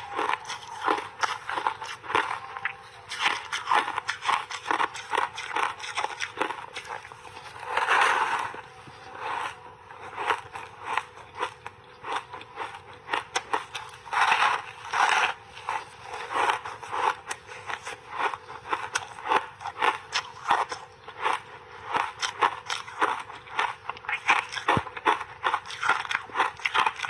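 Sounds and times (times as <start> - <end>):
ice crunching while chewed: 0.0 - 27.0.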